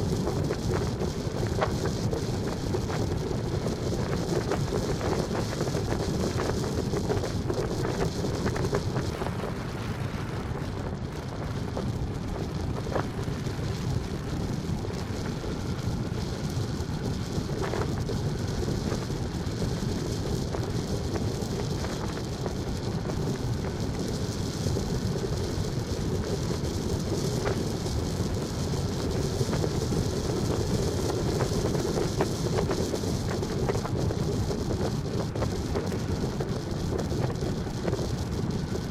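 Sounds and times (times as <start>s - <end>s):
vehicle rumbling on road: 0.0s - 38.9s
wind noise: 0.0s - 38.9s.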